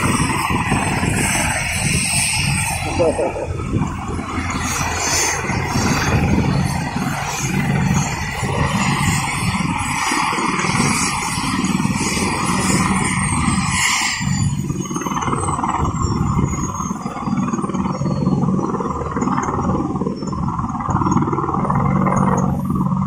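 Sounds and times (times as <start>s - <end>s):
helicopter rotor pulsing: 0.0s - 23.0s
loud continuous rush: 0.0s - 23.0s.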